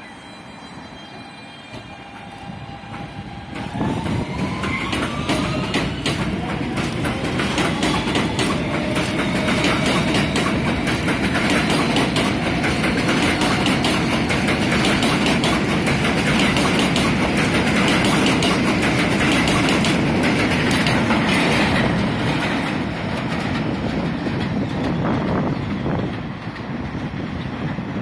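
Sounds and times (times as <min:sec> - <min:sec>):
train wheels clattering over rail joints: 0:02.8 - 0:28.0.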